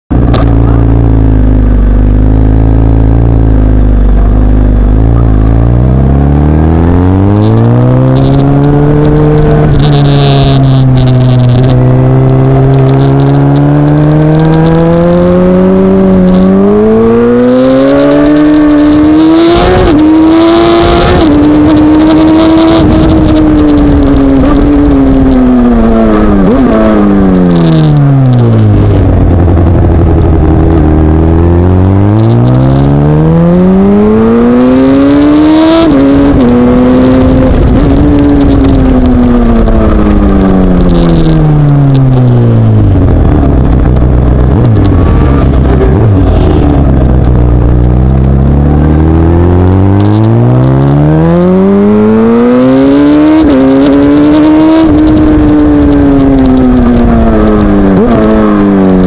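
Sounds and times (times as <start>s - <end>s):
motorcycle engine revving: 0.1s - 59.0s.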